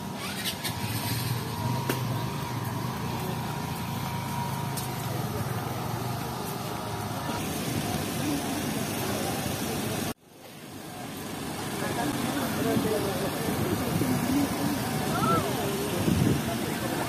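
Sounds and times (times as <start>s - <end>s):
faint voices: 0.0s - 17.0s
thin steady whine: 0.0s - 17.0s
vehicle engine running: 0.0s - 17.0s.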